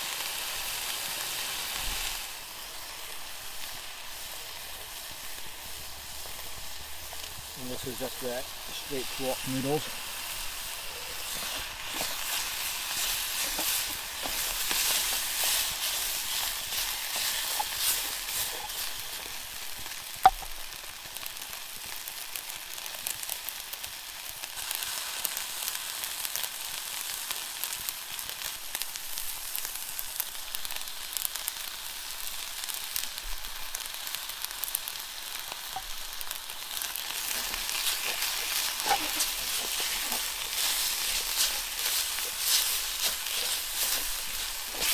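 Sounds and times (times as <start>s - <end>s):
noodles sizzling in a pan: 0.0s - 44.9s.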